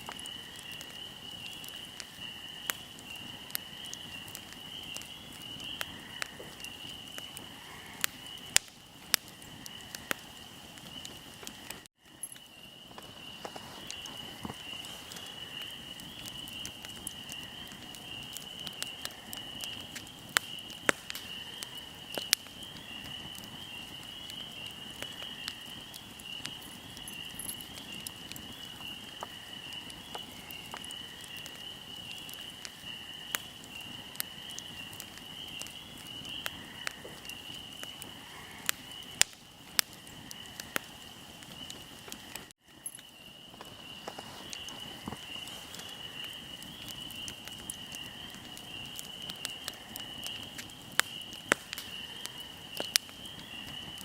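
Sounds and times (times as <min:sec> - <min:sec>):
crickets chirring: 0:00.0 - 0:54.0
wood fire crackling: 0:00.0 - 0:54.0.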